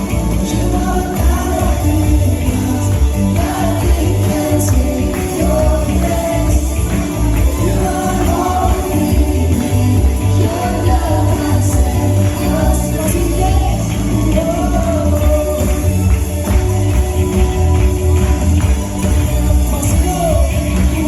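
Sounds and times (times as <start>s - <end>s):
gospel worship band: 0.0s - 21.0s
voices singing together: 0.0s - 21.0s.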